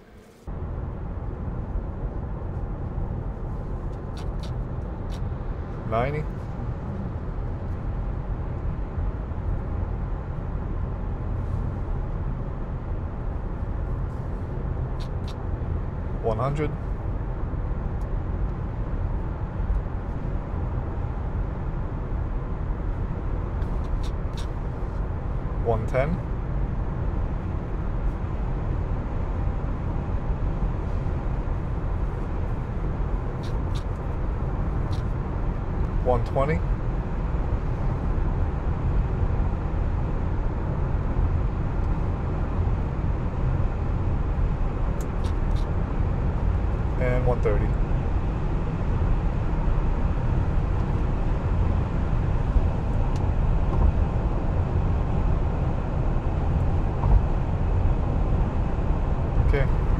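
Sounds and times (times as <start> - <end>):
car cabin road and wind noise: 0.0 - 59.9.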